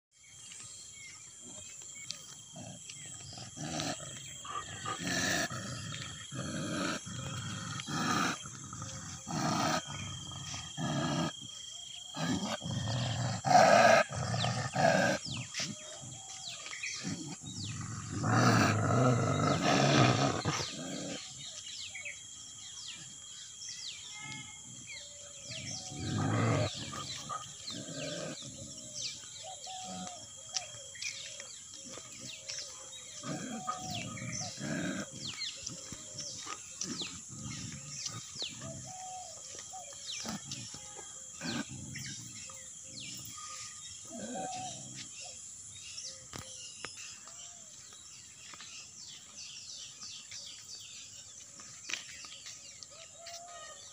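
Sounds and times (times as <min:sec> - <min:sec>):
dogs growling: 0:00.9 - 0:53.9.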